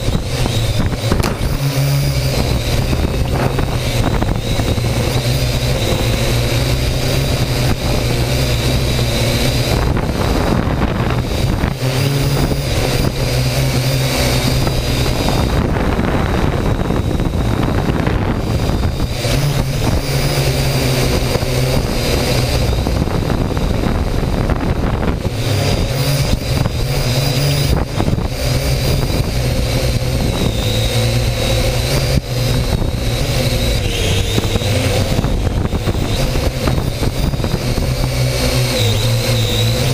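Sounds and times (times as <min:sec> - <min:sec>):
drone propellers whirring: 0:00.0 - 0:39.9.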